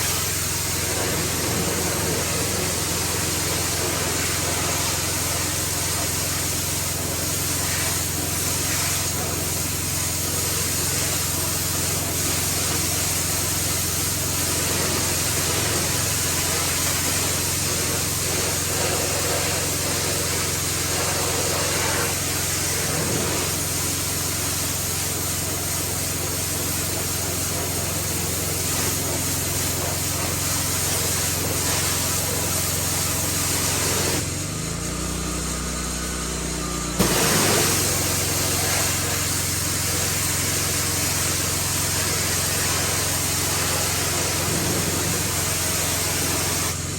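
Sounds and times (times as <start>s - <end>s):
spray jet hissing: 0.0s - 34.4s, 37.0s - 46.9s
pressure washer engine running: 0.0s - 46.9s.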